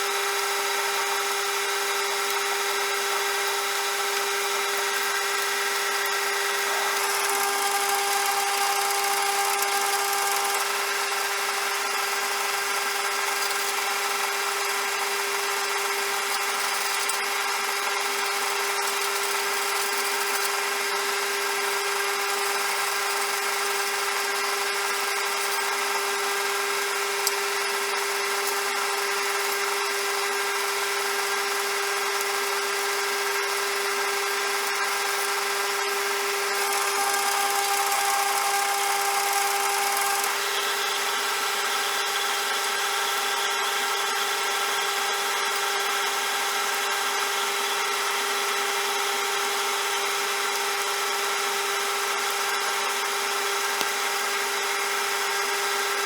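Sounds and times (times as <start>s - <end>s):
metal lathe motor whine: 0.0s - 56.0s.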